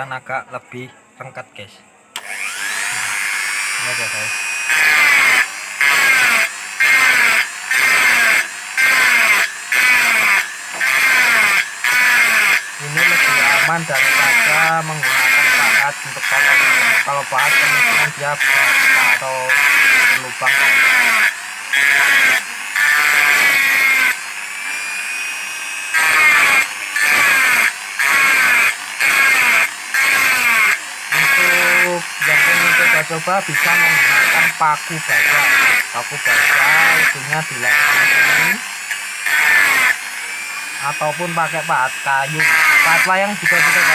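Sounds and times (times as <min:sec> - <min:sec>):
rotary tool grinding metal: 0:02.2 - 0:43.9.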